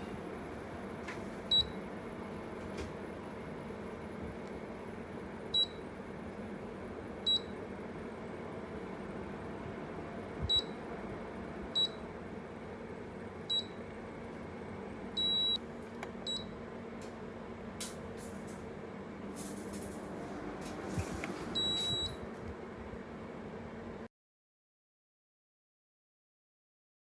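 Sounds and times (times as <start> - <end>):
air conditioner beeps: 0.0 - 18.6, 19.3 - 23.0.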